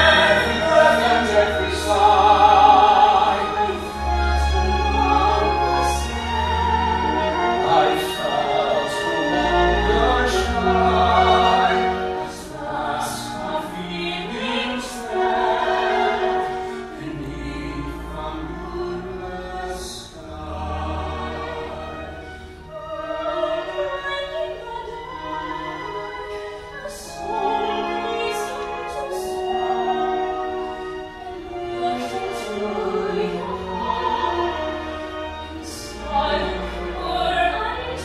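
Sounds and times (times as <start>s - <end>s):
operatic singing: 0.0s - 38.0s
orchestral accompaniment: 0.0s - 38.0s.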